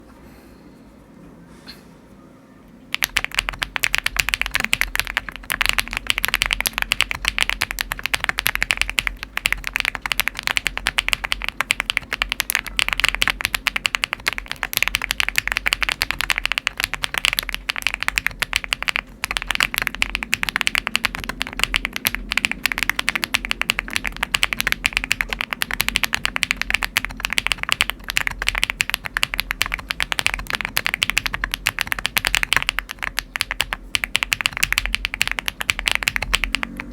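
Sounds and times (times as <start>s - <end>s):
fast typing on mechanical keyboard: 2.9s - 36.9s.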